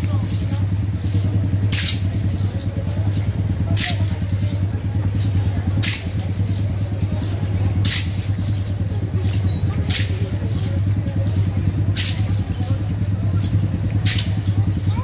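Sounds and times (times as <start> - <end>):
engine humming: 0.0 - 15.0
whip lashing strikes: 0.1 - 15.0.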